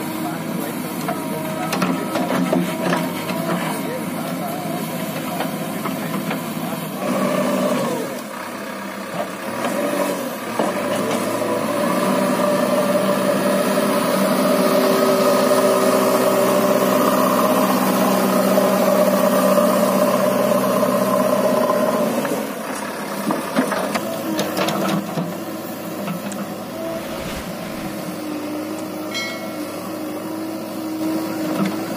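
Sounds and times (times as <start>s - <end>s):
diesel engine running under load: 0.0s - 31.9s.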